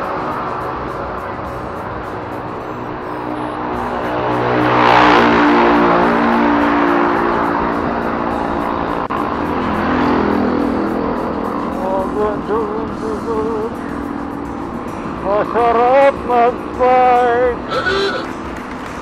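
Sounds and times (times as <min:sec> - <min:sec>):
background music: 0:00.0 - 0:19.0
road traffic: 0:00.0 - 0:19.0
vehicle passing close by: 0:00.0 - 0:19.0.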